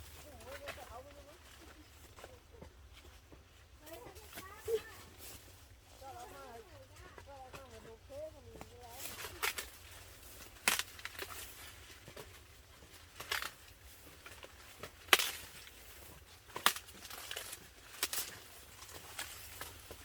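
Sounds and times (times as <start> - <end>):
dry corn plants crackling and snapping: 0.0 - 20.0.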